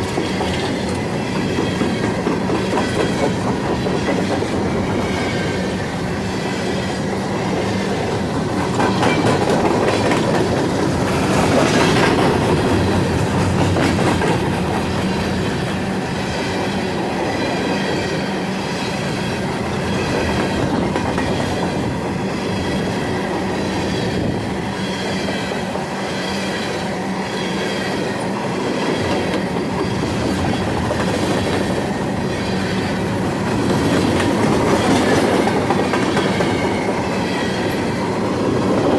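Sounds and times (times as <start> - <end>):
clickety-clack over rail joints: 0.0 - 38.9
steel wheels rumbling: 0.0 - 38.9.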